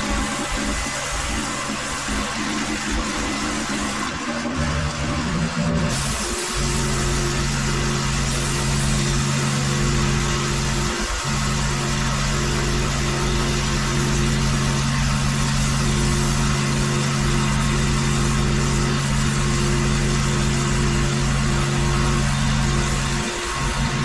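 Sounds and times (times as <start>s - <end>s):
water spraying on concrete: 0.0s - 4.0s, 5.9s - 24.0s
pressure washer engine running: 0.0s - 24.0s.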